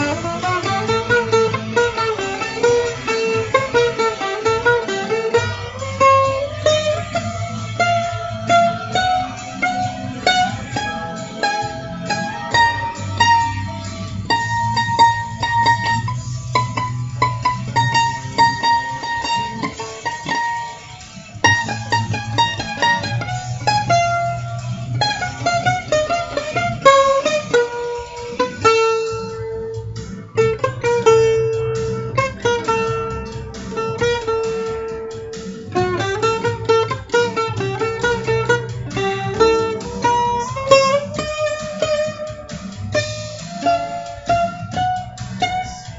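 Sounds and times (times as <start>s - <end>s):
guitar picking single notes: 0.0s - 45.9s.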